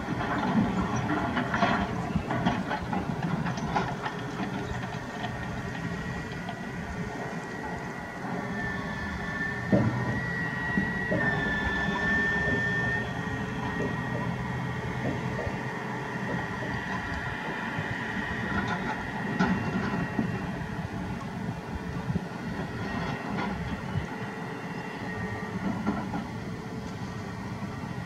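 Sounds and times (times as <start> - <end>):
excavator diesel engine hum: 0.0 - 28.0.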